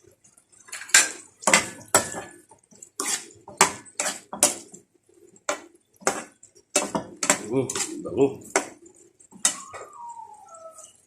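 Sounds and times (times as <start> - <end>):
metal utensil scraping a pan: 0.5 - 9.9.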